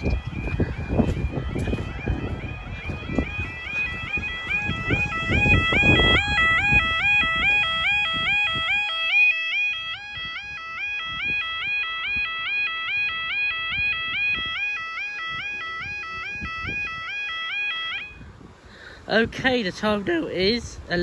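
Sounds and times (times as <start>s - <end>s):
two-tone alarm warbling: 0.0s - 18.4s.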